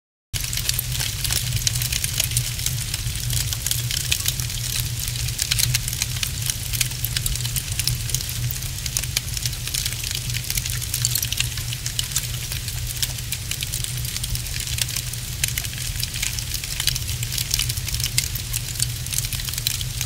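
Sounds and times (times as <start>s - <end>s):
wood fire crackling: 0.4s - 20.0s.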